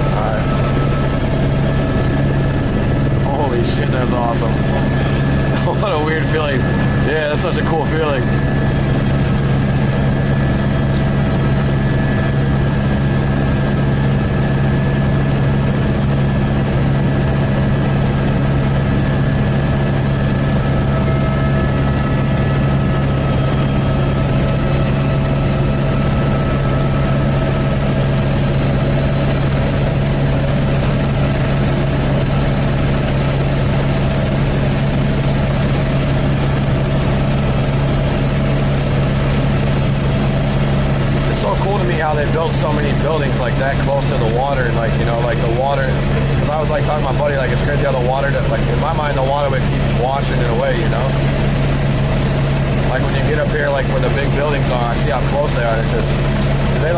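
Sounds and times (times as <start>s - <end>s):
helicopter engine and rotors drone: 0.0s - 56.9s.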